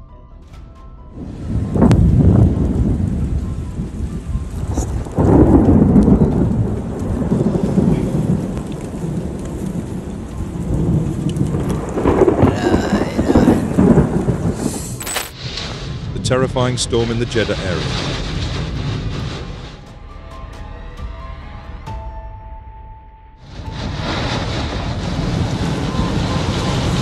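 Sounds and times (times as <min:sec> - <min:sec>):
storm noise: 0:01.1 - 0:20.0, 0:23.4 - 0:27.0
thunder rumbling: 0:01.1 - 0:20.0, 0:23.4 - 0:27.0
loud thunder peal: 0:01.2 - 0:19.9, 0:23.4 - 0:27.0.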